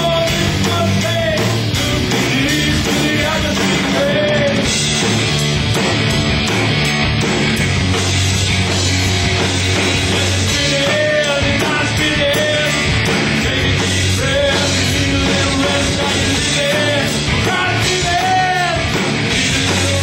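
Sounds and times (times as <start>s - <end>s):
bass guitar: 0.0s - 20.0s
drum kit: 0.0s - 20.0s
electric guitars: 0.0s - 20.0s.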